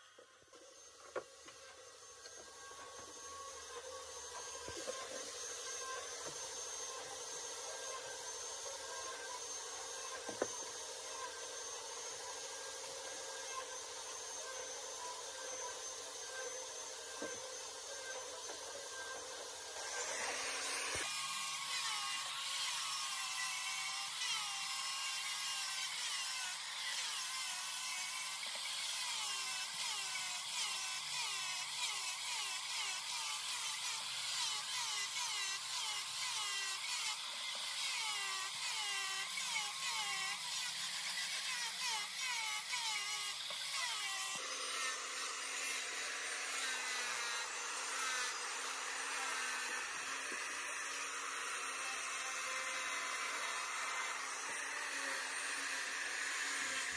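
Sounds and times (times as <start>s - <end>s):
angle grinder sanding wood: 0.0s - 56.9s.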